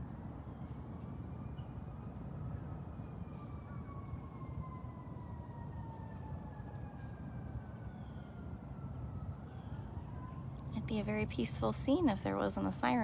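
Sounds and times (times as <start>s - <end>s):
siren wailing: 0.3s - 13.0s.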